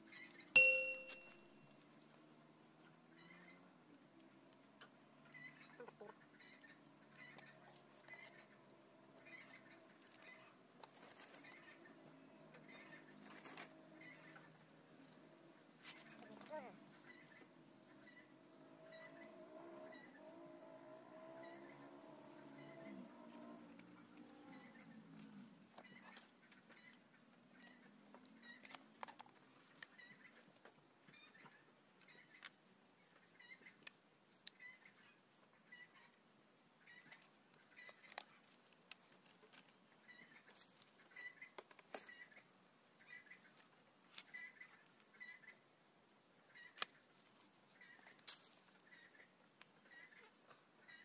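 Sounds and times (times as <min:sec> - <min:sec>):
small bird chirping: 0:00.0 - 0:20.3, 0:21.4 - 0:36.2, 0:36.8 - 0:51.0
faint outdoor ambience: 0:00.0 - 0:51.0.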